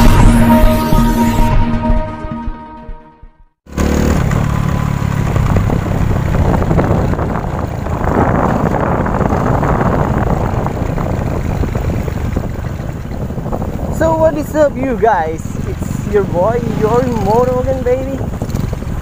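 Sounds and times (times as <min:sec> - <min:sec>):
motorcycle engine running: 0:03.7 - 0:19.0
wind and road noise: 0:03.7 - 0:19.0.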